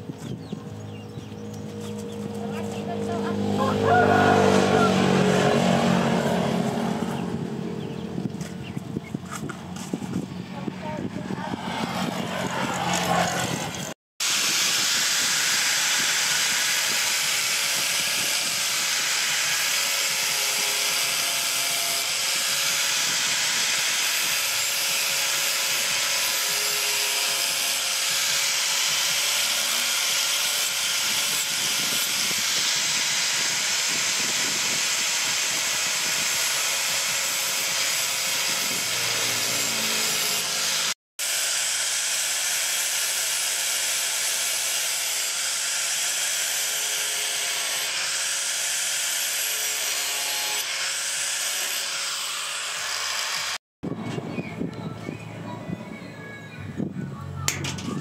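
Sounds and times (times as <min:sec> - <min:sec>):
angle grinder grinding steel: 0:00.8 - 0:53.6.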